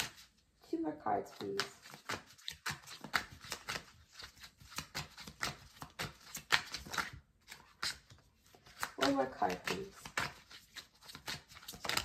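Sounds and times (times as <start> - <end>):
cards shuffling: 0.0 - 0.3, 1.1 - 12.0.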